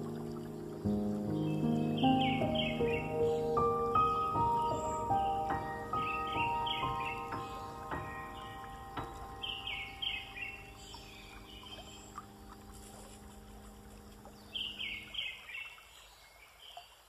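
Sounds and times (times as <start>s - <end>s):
soft background music: 0.0s - 15.3s
bird chirping: 0.0s - 17.0s.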